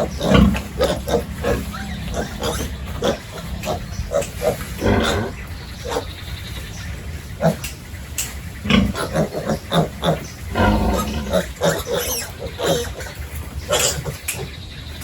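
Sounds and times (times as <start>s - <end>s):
pigs grunting and squealing: 0.0s - 14.6s.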